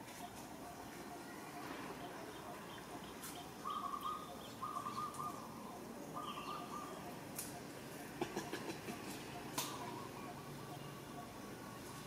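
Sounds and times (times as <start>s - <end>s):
bird trilling call: 0.2s - 11.5s.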